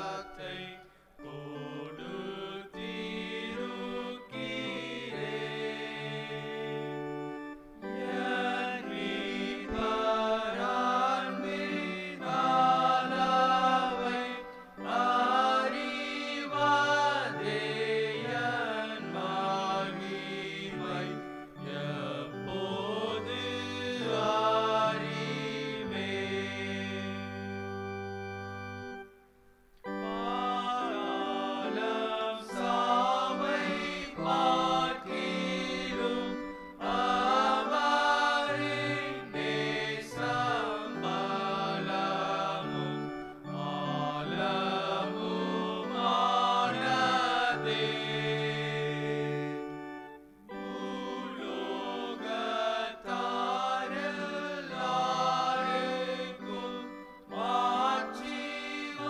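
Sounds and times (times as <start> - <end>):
congregation singing a hymn: 0.0 - 29.2, 29.8 - 59.0
organ accompaniment: 0.0 - 59.0.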